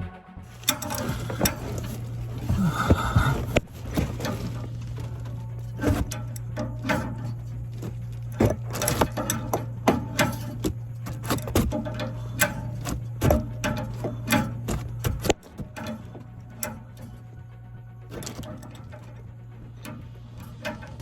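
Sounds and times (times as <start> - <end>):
low mechanical hum: 0.0 - 21.0
metal tools clicking and knocking: 0.5 - 21.0.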